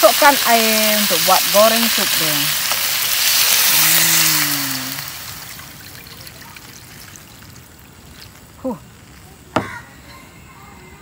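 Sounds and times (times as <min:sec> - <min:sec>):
water sizzling in hot wok: 0:00.0 - 0:09.2.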